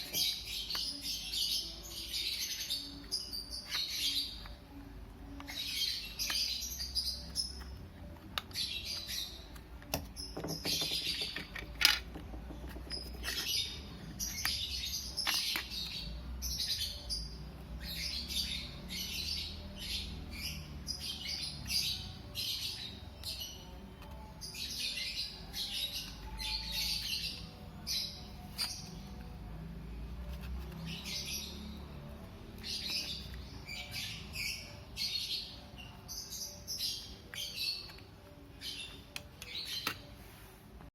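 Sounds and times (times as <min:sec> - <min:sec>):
small birds chirping: 0:00.0 - 0:40.2.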